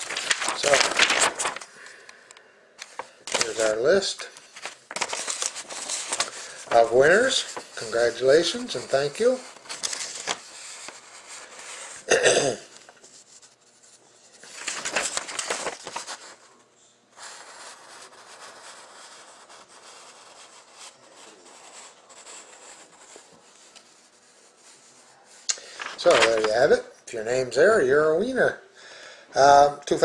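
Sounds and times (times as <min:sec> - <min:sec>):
paper sheet rustling: 0:00.0 - 0:02.0, 0:02.8 - 0:12.1, 0:12.7 - 0:16.6, 0:17.2 - 0:26.8.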